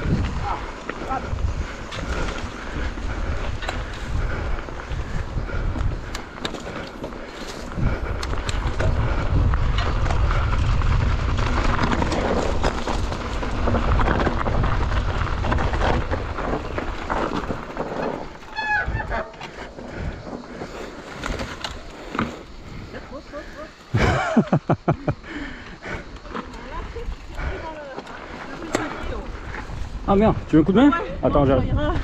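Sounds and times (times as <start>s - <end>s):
tyre and trail rumble: 0.0s - 32.0s
wind buffeting microphone: 0.0s - 32.0s.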